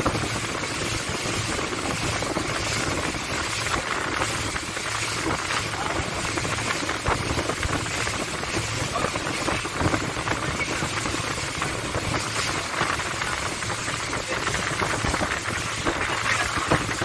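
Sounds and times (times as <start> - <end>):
speedboat engine running: 0.0 - 17.0
water rushing: 0.0 - 17.0
wind noise: 0.0 - 17.0.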